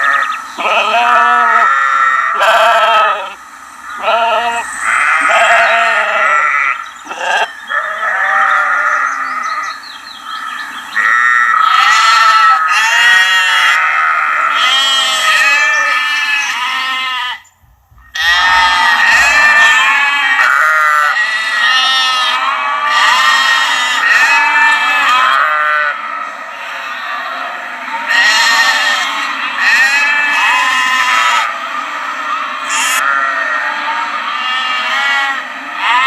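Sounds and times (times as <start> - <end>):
high-pitched lamb bleats: 0.0 - 3.4, 4.0 - 9.6, 11.0 - 17.5, 18.1 - 26.0, 26.6 - 31.5, 32.7 - 36.0
sheep bleating: 0.0 - 3.4, 4.0 - 9.8, 11.0 - 17.5, 18.1 - 36.0.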